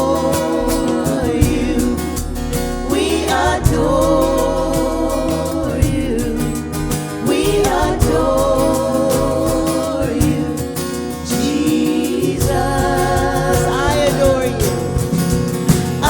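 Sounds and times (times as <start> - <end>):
person singing: 0.0 - 15.2
worship band music: 0.0 - 16.0.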